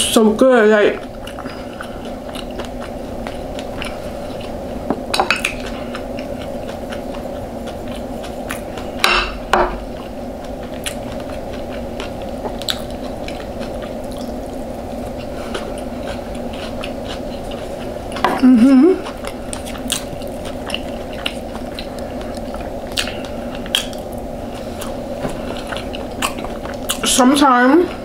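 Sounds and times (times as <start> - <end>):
steady background hum: 0.0 - 28.0
chewing: 1.0 - 9.0, 9.8 - 27.2.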